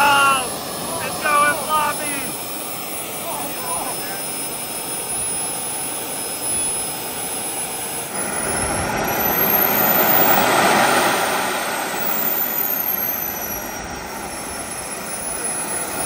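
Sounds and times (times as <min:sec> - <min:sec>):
jet turbine whine: 0:00.0 - 0:16.0
rush of exhaust: 0:00.0 - 0:16.0.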